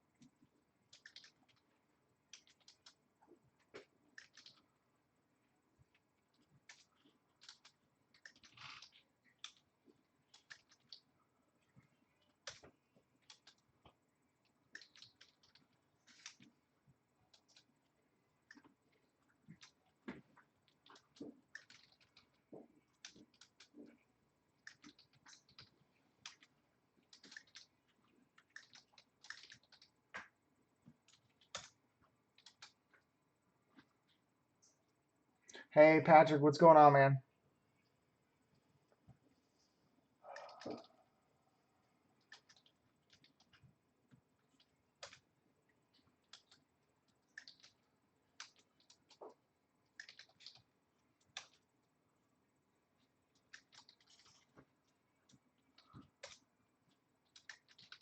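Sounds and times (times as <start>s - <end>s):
faint keyboard typing: 0.1s - 4.9s, 5.7s - 35.7s, 37.8s - 41.2s, 41.8s - 58.0s.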